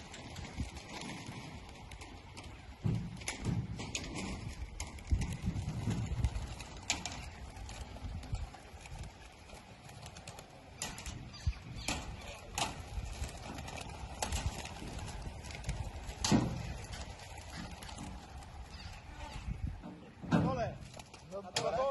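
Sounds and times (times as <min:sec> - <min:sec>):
pigeon wings fluttering: 0:00.0 - 0:19.8, 0:20.6 - 0:21.9
wind rumble on microphone: 0:00.0 - 0:20.9.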